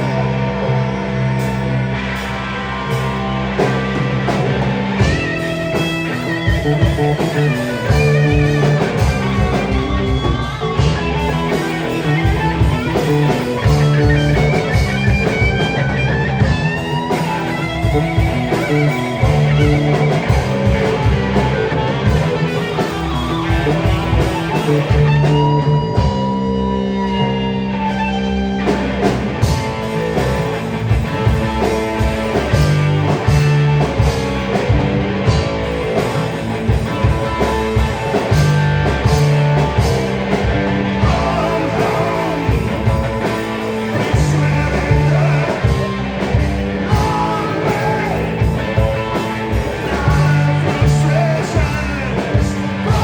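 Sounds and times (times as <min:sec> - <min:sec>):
bass guitar: 0:00.0 - 0:53.0
drum kit: 0:00.0 - 0:53.0
electric guitar lead: 0:00.0 - 0:53.0.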